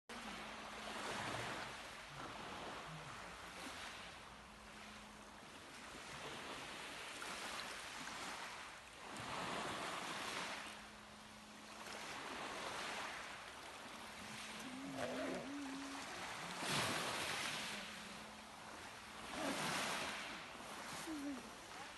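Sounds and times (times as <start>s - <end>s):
waves breaking on shore: 0.1s - 21.9s.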